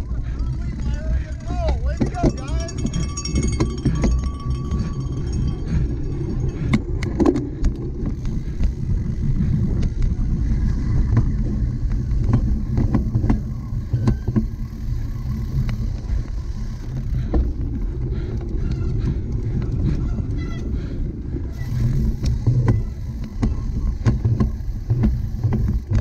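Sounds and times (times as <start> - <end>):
bike clicks and rattles: 0.0 - 26.0
wind and tyres rumbling: 0.0 - 26.0.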